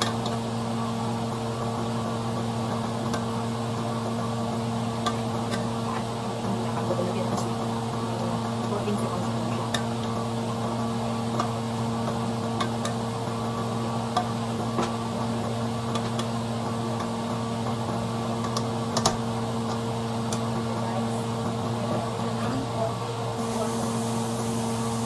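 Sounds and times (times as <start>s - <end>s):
pot simmering with pops: 0.0s - 23.2s
steady low hum: 0.0s - 25.0s.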